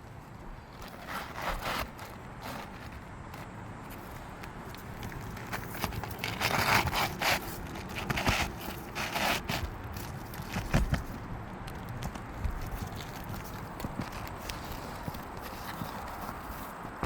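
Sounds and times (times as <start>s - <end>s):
shingle scraping against roof: 0.4s - 17.0s.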